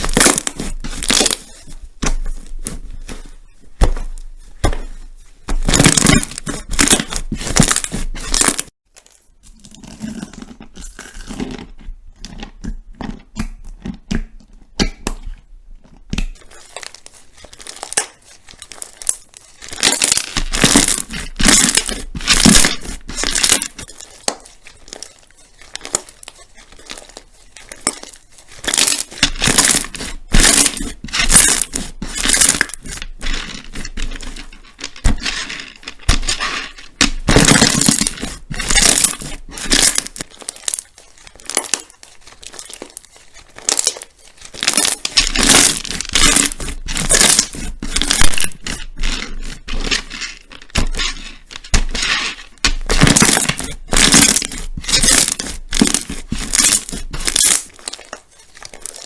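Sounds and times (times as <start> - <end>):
slime crackling and popping: 0.0 - 15.4, 16.0 - 59.0
slime squishing: 0.0 - 59.0.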